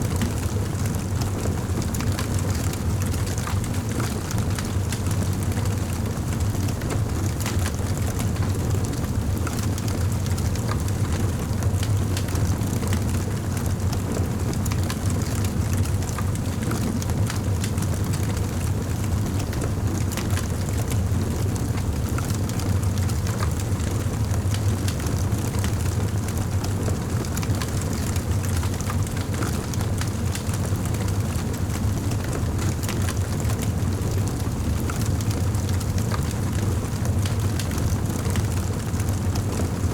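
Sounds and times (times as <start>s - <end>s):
low rumble of flames: 0.0s - 39.9s.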